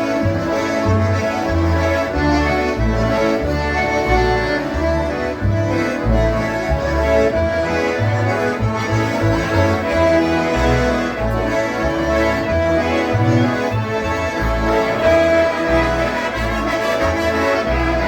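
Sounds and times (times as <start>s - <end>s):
bass line: 0.0s - 18.0s
concertinas playing reedy chords: 0.0s - 18.0s.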